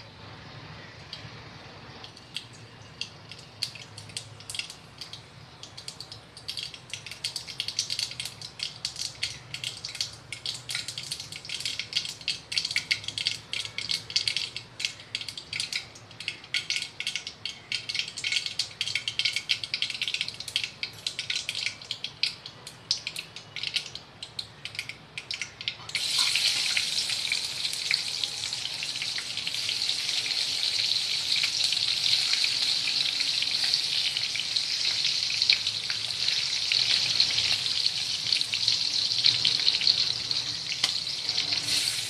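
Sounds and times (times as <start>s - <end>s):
seeds popping in hot oil: 1.9s - 42.0s.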